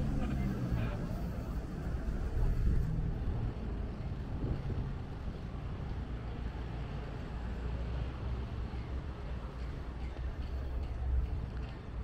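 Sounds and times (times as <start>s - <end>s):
street ambience low rumble: 0.0s - 12.0s.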